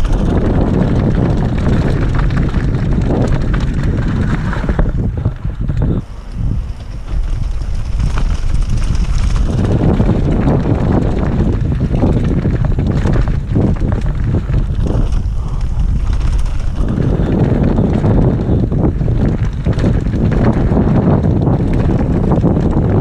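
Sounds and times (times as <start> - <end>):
mountain bike rattling over rocks: 0.0 - 23.0
wind buffeting microphone: 0.0 - 23.0.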